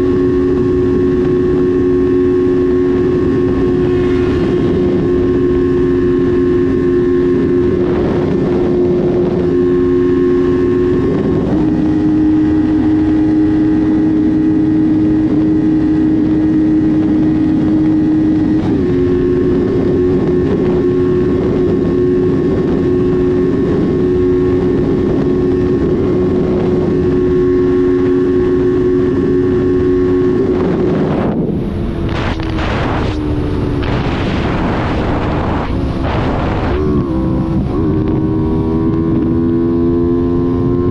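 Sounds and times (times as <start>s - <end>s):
engine running: 0.0s - 40.9s
heavy wind noise: 0.0s - 40.9s.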